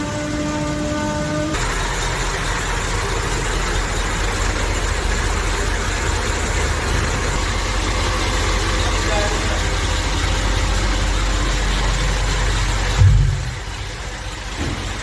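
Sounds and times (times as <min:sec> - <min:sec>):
tractor diesel engine idling: 0:01.6 - 0:15.0.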